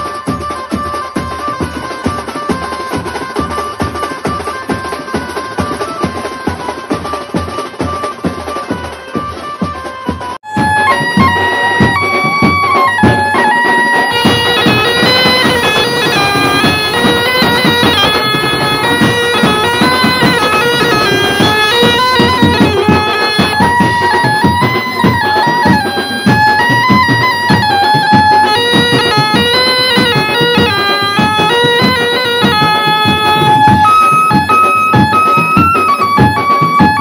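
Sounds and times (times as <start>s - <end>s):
reedy wind instrument melody: 0.0s - 37.0s
steady drum beat: 0.0s - 37.0s.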